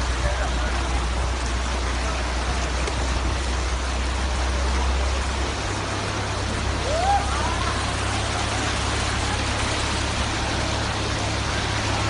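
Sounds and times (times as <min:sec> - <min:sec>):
water rushing and sloshing: 0:00.0 - 0:12.0.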